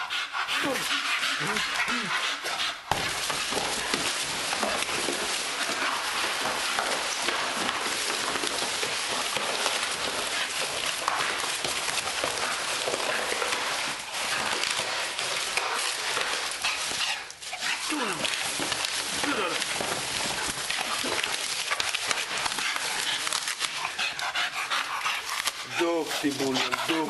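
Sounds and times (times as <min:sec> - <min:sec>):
dog chewing and ripping cardboard: 0:00.6 - 0:27.0.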